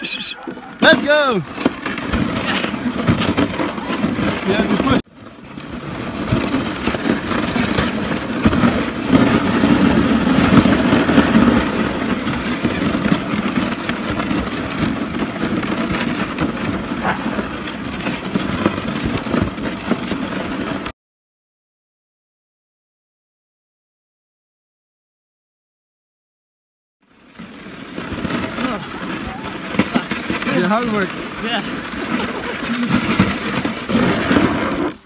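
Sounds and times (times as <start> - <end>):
sled rattling and knocking: 0.0 - 20.9, 27.0 - 35.0
sled runners scraping snow: 0.0 - 20.9, 27.0 - 35.0.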